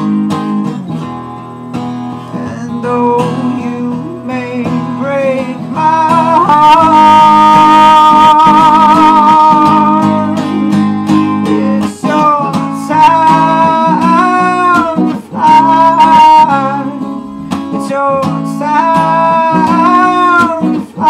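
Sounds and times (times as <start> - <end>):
acoustic guitar strumming: 0.0 - 21.0
person singing with vibrato: 2.2 - 21.0.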